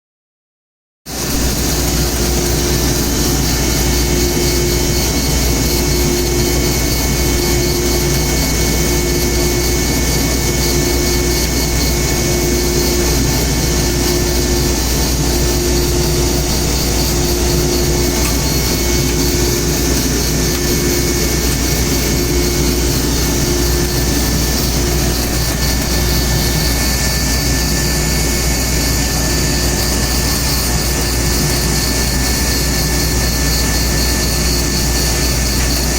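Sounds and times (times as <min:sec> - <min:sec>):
woodworking machine running: 0:01.1 - 0:35.9.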